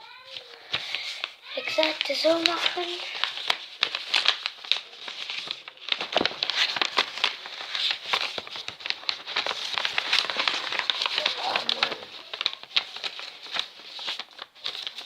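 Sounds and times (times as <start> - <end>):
paper being folded and crinkling: 0.0 - 15.0.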